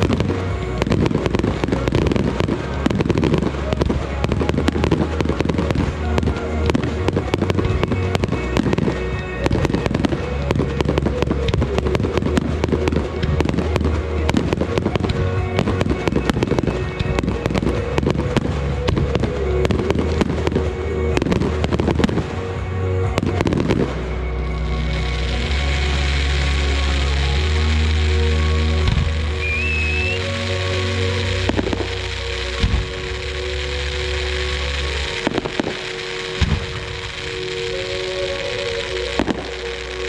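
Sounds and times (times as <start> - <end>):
fireworks bangs and crackles: 0.0 - 40.0
music: 0.0 - 40.0.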